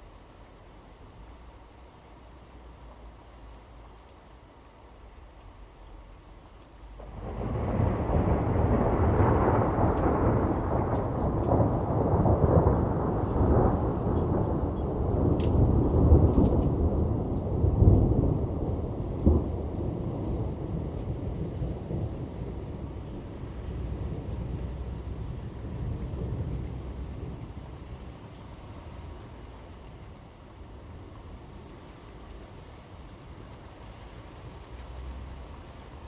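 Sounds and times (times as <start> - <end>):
thunder rumbling: 6.9 - 36.0.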